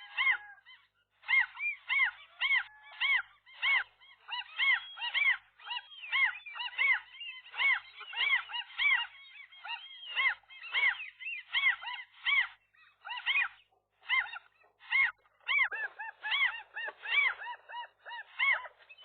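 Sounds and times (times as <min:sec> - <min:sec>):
gulls calling: 0:00.0 - 0:19.0.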